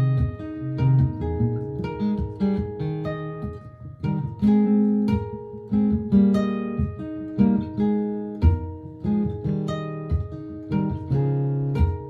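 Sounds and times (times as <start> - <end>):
acoustic guitar plucked notes: 0.0 - 12.0
looped guitar part: 0.0 - 12.0.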